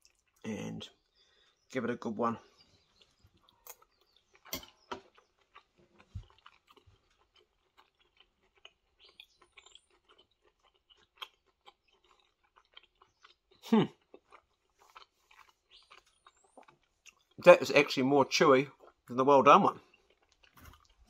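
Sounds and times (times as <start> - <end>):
person chewing: 0.0 - 0.4, 2.6 - 17.4, 18.7 - 19.1, 19.8 - 21.0.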